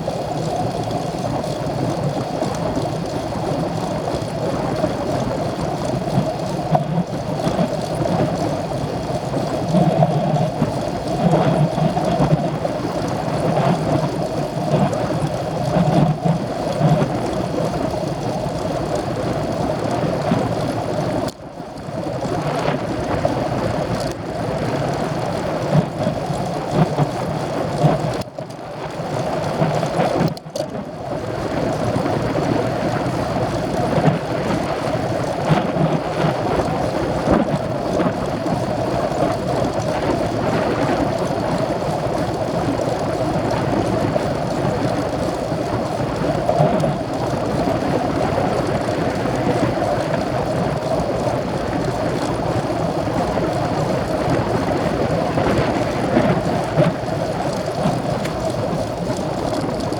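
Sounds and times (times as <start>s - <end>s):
bicycle tyre and road noise: 0.0s - 59.9s
wind rush over microphone: 0.0s - 59.9s.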